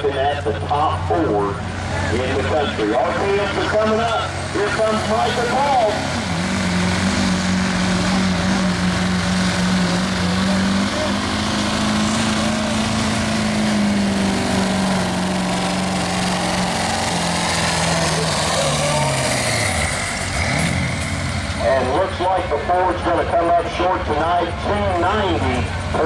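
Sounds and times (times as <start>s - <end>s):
diesel truck engine at high rpm: 0.0s - 26.0s
loud exhaust rush: 0.0s - 26.0s.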